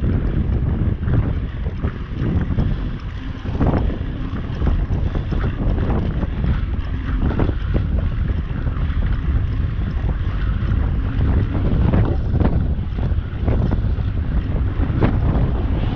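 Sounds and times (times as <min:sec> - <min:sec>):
strong wind buffeting microphone: 0:00.0 - 0:15.9.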